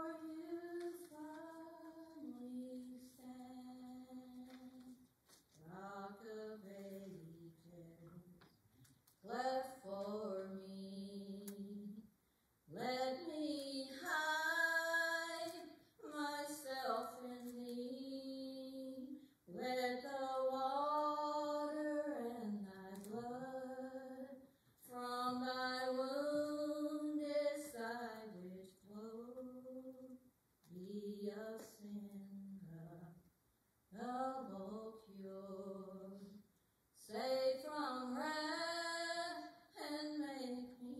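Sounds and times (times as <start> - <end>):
woman singing a hymn unaccompanied: 0.0 - 8.6, 9.2 - 12.1, 12.7 - 33.2, 33.9 - 40.9.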